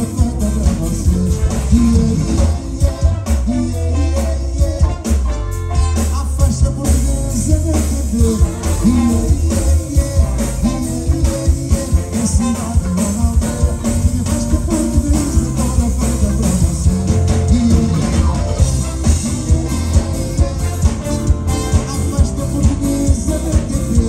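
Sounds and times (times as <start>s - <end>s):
horn section: 0.0s - 24.0s
live band playing: 0.0s - 24.0s
male lead singer: 0.0s - 24.0s.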